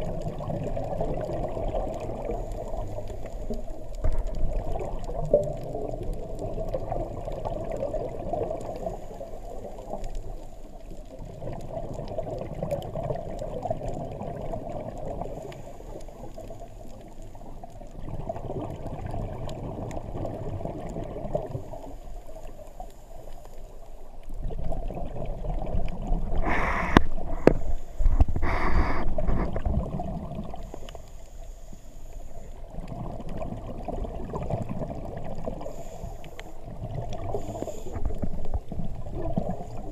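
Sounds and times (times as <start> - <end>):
underwater bubbles gurgling: 0.0 - 39.9.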